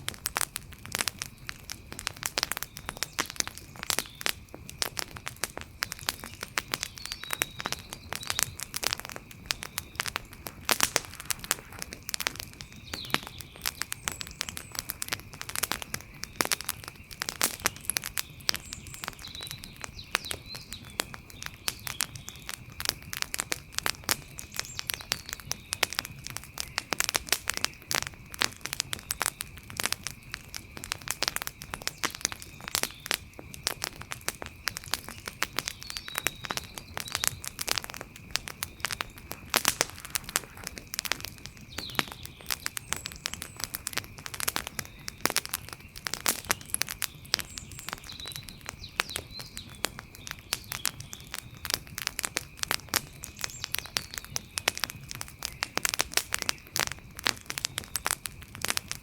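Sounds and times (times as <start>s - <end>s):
wood fire crackling and popping: 0.0s - 59.0s
faint chirps: 1.1s - 23.2s, 24.1s - 58.2s.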